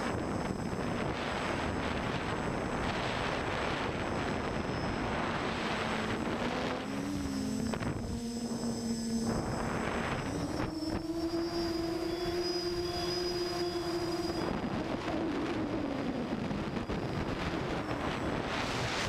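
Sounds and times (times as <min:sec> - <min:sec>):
drone motor hum: 0:00.0 - 0:19.0
wind rushing: 0:00.0 - 0:19.0.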